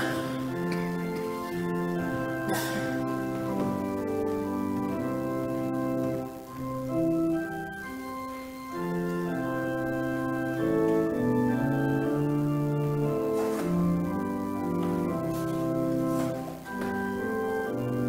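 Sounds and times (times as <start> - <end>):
organ playing sustained chords: 0.0 - 18.0.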